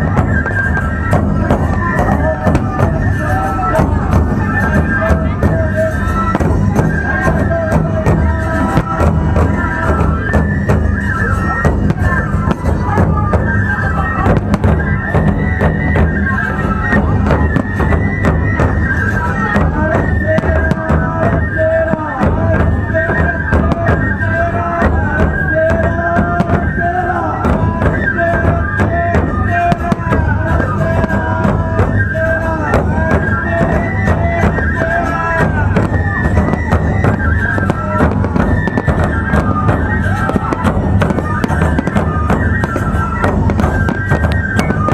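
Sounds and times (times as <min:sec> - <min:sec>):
shrill flutes playing: 0:00.0 - 0:44.9
taiko drums beating: 0:00.0 - 0:44.9.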